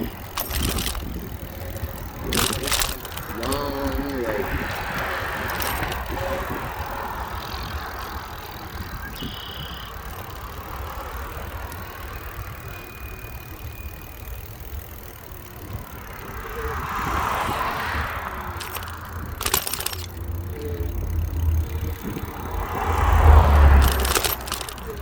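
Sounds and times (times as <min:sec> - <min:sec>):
cars passing: 0:00.0 - 0:25.0.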